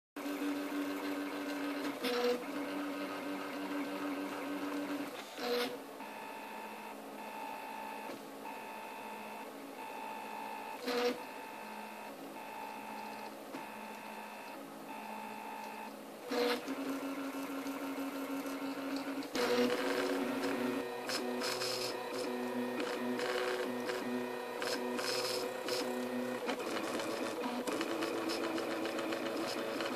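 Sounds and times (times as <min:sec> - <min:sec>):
short repeated printer strokes: 0:00.2 - 0:06.8, 0:09.9 - 0:29.9.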